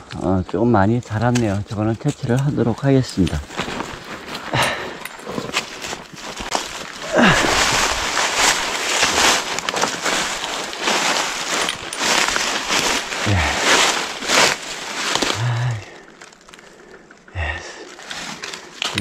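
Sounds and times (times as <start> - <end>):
dry leaves and twigs rustling: 0.5 - 19.0.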